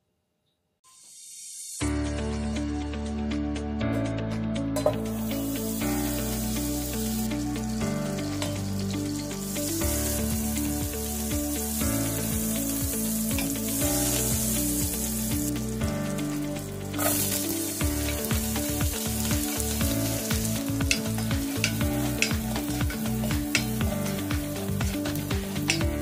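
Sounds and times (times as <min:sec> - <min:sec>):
butter sizzling in a pot: 0:00.9 - 0:01.9, 0:05.0 - 0:26.0
onion frying: 0:00.9 - 0:01.9, 0:05.0 - 0:26.0.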